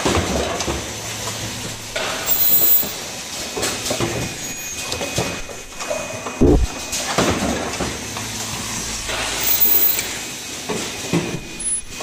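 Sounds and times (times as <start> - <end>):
production line machine noise: 0.0 - 12.0
pneumatic actuators hissing and clacking: 1.0 - 7.2, 7.8 - 12.0.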